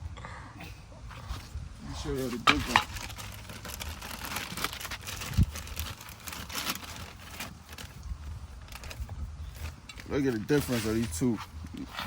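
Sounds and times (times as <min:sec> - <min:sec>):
car parts clicking and rustling: 0:02.2 - 0:12.0.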